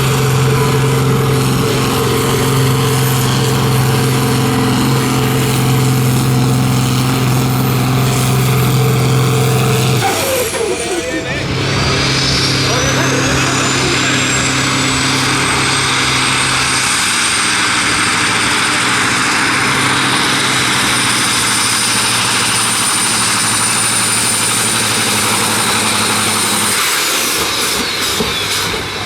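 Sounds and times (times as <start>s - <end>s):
high-pitched whine: 0.0s - 28.6s
tractor engine running flat out: 0.0s - 29.0s.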